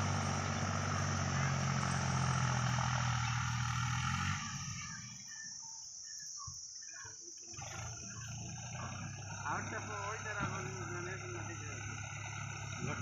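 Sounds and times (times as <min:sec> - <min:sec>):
diesel tractor engine humming: 0:00.0 - 0:05.7, 0:07.5 - 0:13.0.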